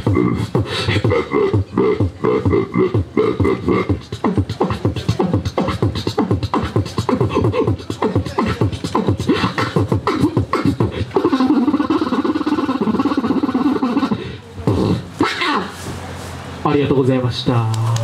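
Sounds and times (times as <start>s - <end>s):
person beatboxing into a microphone: 0.0s - 15.7s.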